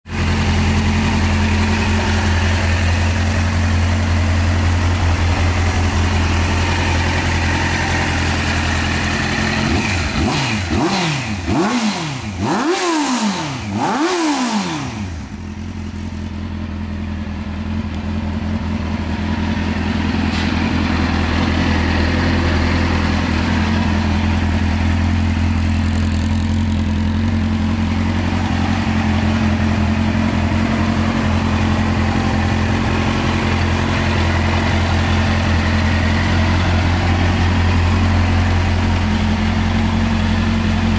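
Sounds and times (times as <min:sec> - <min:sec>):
motorcycle engine idling: 0:00.1 - 0:40.9
motorcycle engine revving: 0:00.1 - 0:40.9.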